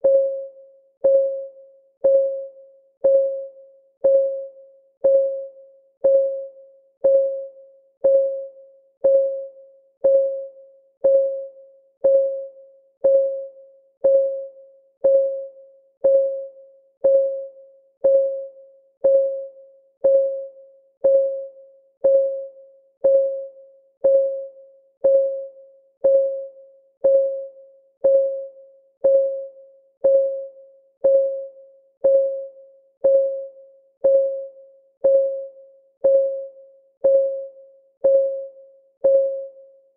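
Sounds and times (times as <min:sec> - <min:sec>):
timer ticking: 0:01.0 - 0:39.5.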